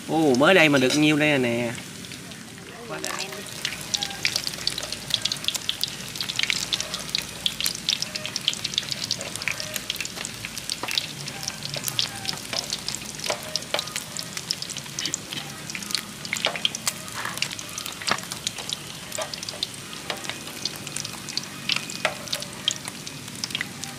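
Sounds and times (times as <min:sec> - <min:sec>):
fish frying in hot oil: 0:00.0 - 0:23.9.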